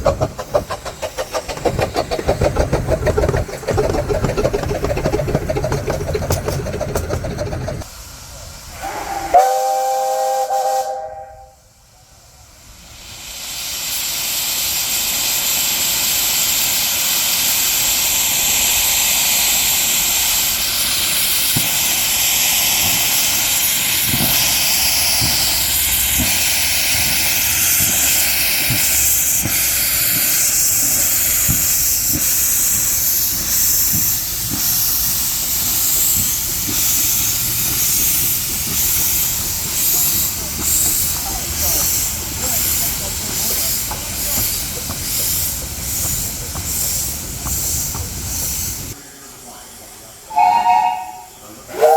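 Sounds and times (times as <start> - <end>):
steam locomotive hissing steam: 0.0 - 51.9.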